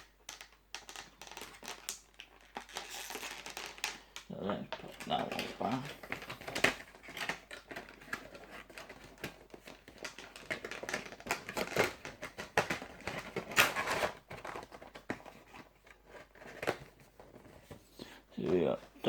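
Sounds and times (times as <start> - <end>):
box handling clicks and rustles: 0.0 - 19.0.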